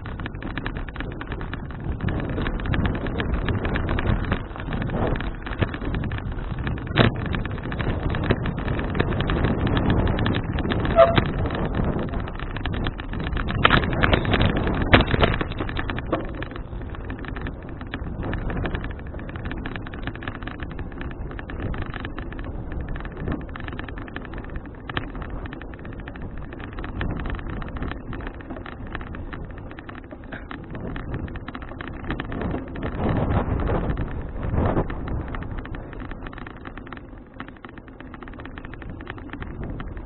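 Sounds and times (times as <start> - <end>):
bicycle ride rumble: 0.0 - 40.0
small rattling clicks: 0.0 - 40.0
wind buffeting microphone: 0.0 - 40.0.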